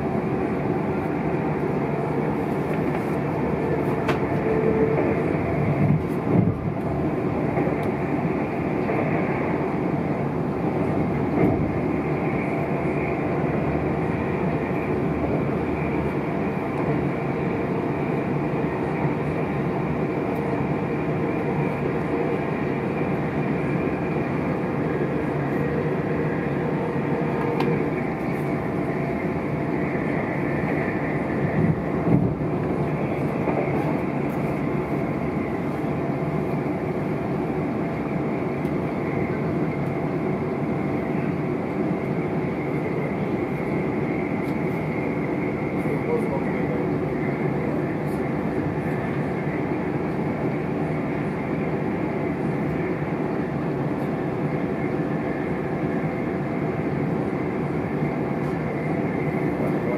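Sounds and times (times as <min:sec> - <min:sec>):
train running from inside carriage: 0:00.0 - 0:59.9.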